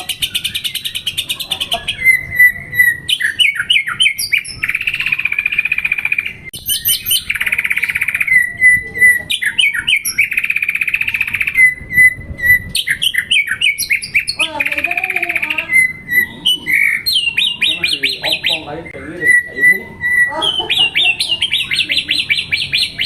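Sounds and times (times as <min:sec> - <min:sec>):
songbird singing whistles and trills: 0:00.0 - 0:23.0.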